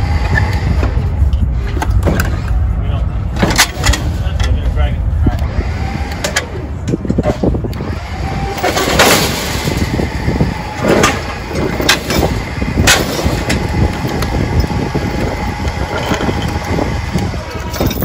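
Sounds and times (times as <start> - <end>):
engine block scraping and clanking: 0.2 - 4.8, 6.2 - 18.0.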